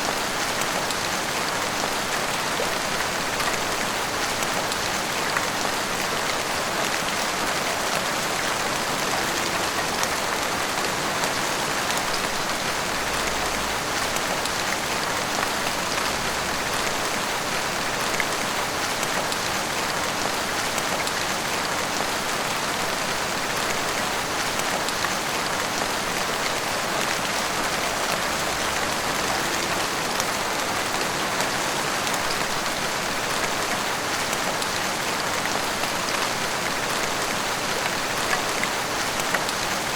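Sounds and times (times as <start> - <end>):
heavy rain on rooftops and street: 0.0 - 39.9.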